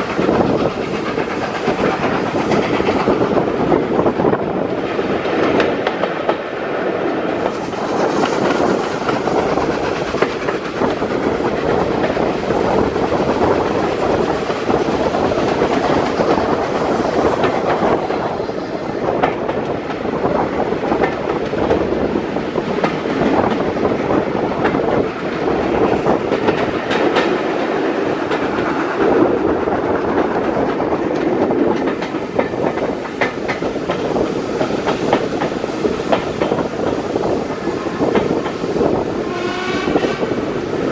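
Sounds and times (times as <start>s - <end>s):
wheels clicking over track: 0.0s - 18.4s, 19.1s - 39.1s
train coach rolling rumble: 0.0s - 40.9s.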